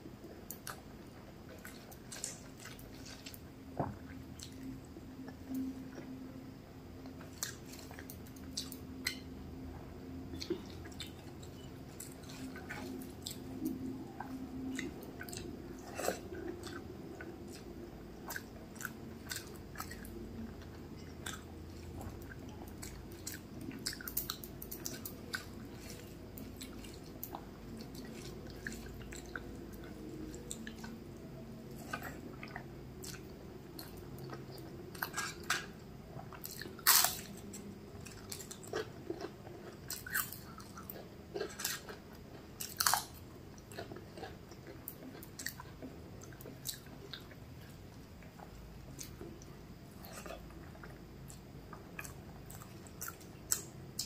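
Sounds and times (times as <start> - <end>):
chewing food: 0.2 - 6.2, 7.0 - 54.0.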